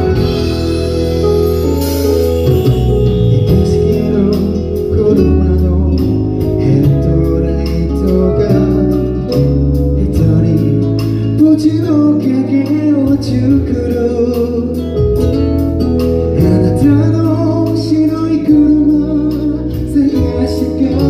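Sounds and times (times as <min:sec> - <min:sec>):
man singing into microphone: 0:00.0 - 0:00.8, 0:03.0 - 0:15.1, 0:16.3 - 0:21.0
instrumental backing with bass: 0:00.0 - 0:21.0.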